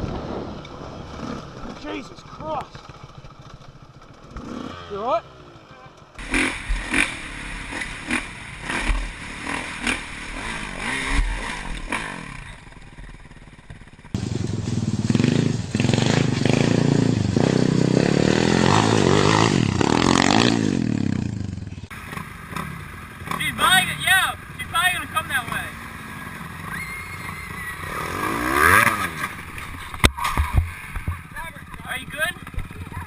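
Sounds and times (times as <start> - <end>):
motocross bike engine revving: 0.8 - 33.0.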